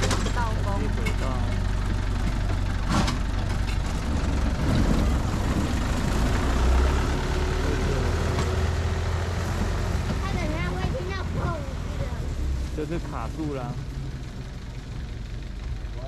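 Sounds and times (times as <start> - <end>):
train engine hum with rattling: 0.0 - 16.0.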